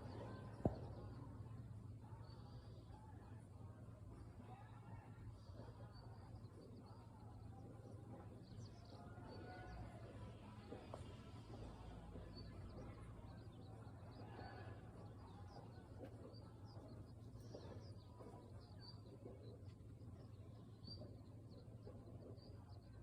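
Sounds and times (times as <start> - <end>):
small birds chirping: 4.1 - 23.0.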